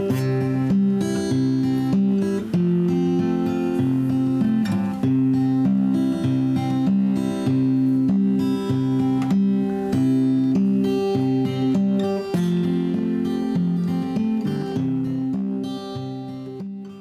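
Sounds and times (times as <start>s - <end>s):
acoustic guitar strummed chords: 0.0s - 17.0s.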